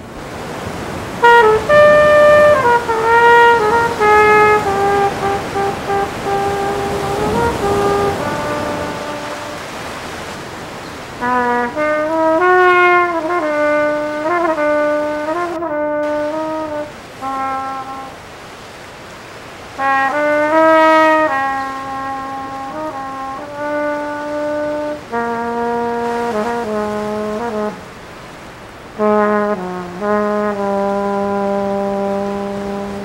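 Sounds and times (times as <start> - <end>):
solo flugelhorn: 0.0 - 18.8, 19.5 - 33.0
surf washing: 0.0 - 33.0.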